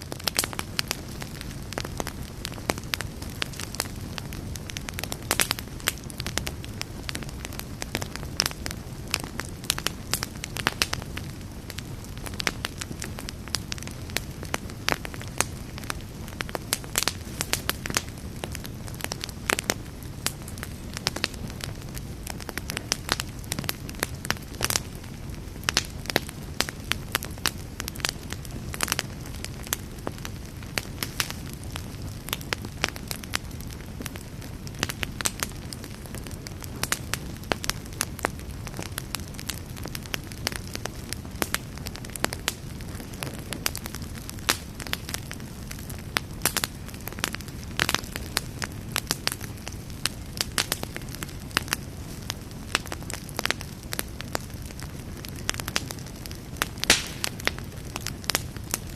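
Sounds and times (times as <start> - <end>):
campfire flames: 0.0 - 58.9
fire crackling and popping: 0.0 - 58.9.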